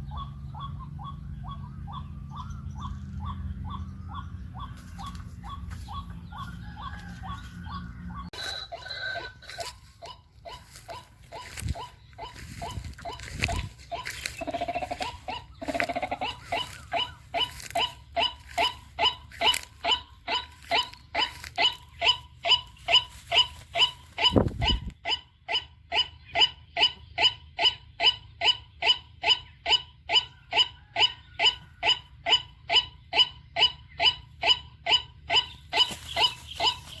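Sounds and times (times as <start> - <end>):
waterhen calling: 0.0 - 37.0.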